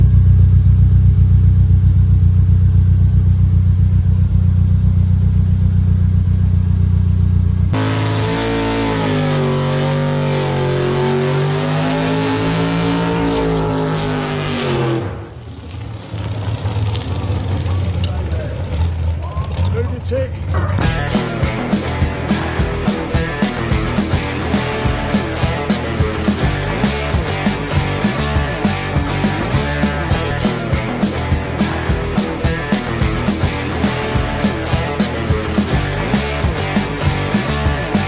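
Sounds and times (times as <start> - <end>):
car engine revving: 0.0 - 18.0, 20.8 - 38.0.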